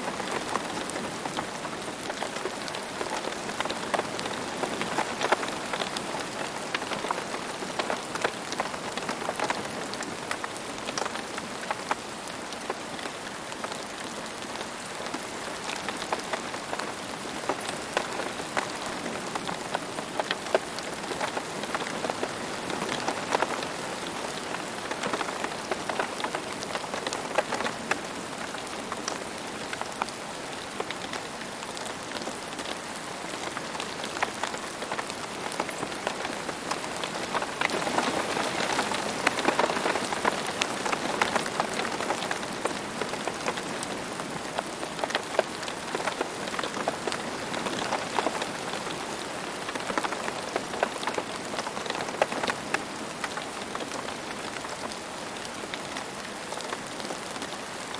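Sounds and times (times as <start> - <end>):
rain pattering on a hard surface: 0.0 - 57.9.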